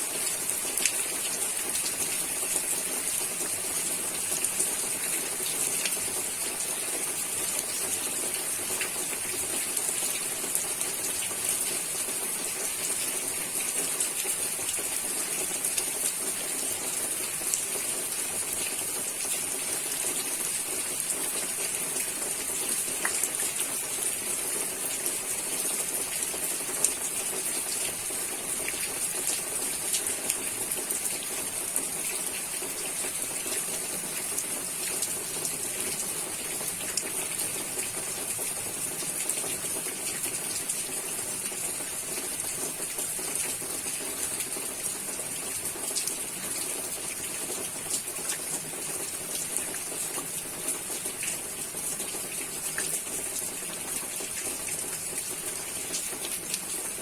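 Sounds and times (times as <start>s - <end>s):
steady rain hiss: 0.0s - 57.0s
rain drop ticks: 0.3s - 20.2s, 20.8s - 24.0s, 24.7s - 57.0s.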